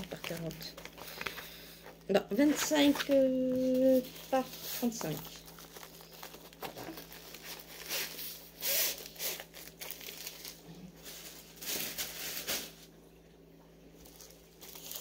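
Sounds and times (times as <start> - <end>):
packaging crinkling and rustling: 0.0 - 12.9, 14.0 - 15.0.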